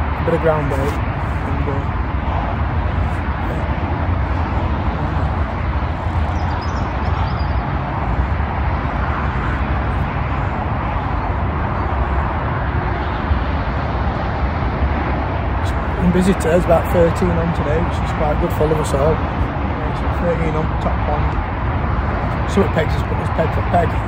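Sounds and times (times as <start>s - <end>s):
motorway traffic: 0.0s - 24.0s.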